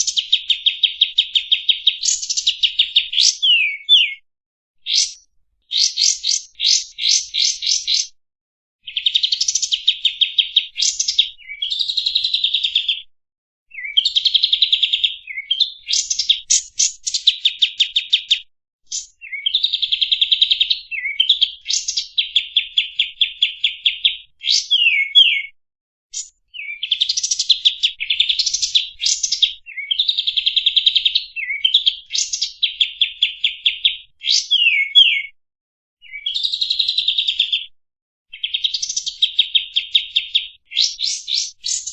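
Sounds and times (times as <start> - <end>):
songbird singing trills: 0.0 - 4.2, 4.8 - 8.2, 8.9 - 13.0, 13.7 - 25.5, 26.1 - 35.3, 36.0 - 37.6, 38.3 - 41.9.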